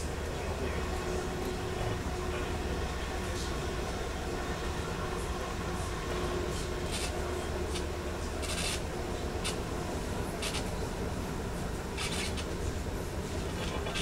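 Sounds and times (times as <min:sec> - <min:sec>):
electric train interior hum: 0:00.0 - 0:14.0.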